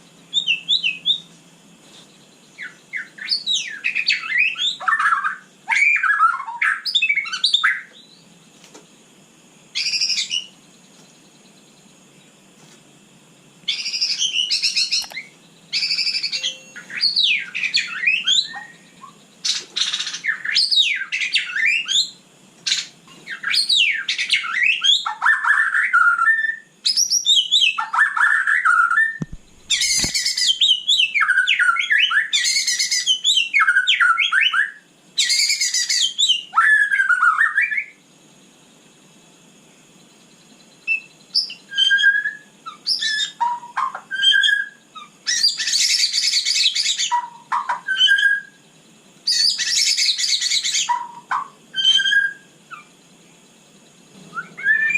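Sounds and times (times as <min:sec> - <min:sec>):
bird singing whistles and trills: 0:00.3 - 0:01.4, 0:02.3 - 0:08.3, 0:09.7 - 0:10.7, 0:13.7 - 0:38.0, 0:40.7 - 0:53.0, 0:53.8 - 0:54.9.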